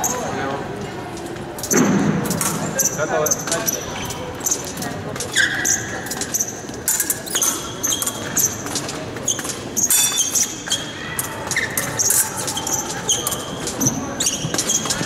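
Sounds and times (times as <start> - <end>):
shoes squeaking on floor: 2.6 - 15.0.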